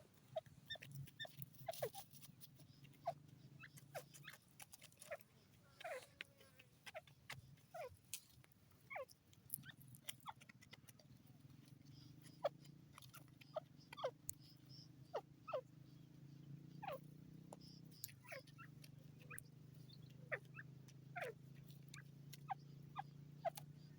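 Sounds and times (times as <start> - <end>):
francolin calling: 0.0 - 6.2, 8.9 - 23.9.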